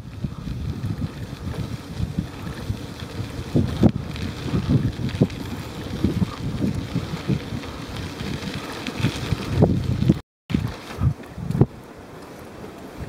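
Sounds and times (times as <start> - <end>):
bicycle bumping on gravel: 0.0 - 13.0
wind buffeting microphone: 0.0 - 13.0.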